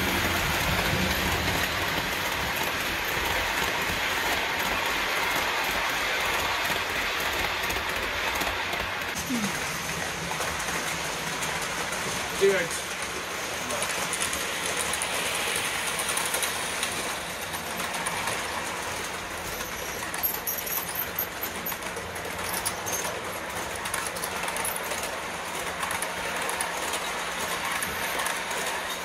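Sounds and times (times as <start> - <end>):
model train wheels on rails: 0.0 - 29.0.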